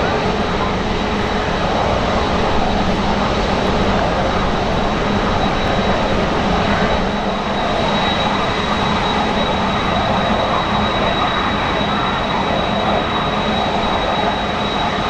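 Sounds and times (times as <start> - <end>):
high engine whine: 0.0 - 15.0
jet engines running: 0.0 - 15.0.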